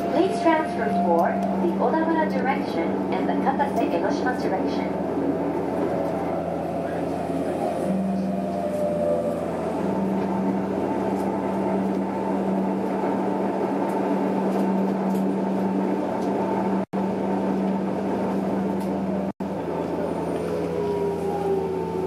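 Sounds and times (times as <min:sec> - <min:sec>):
constant low hum: 0:00.0 - 0:22.0
train wheels rumbling on rail: 0:00.0 - 0:22.0.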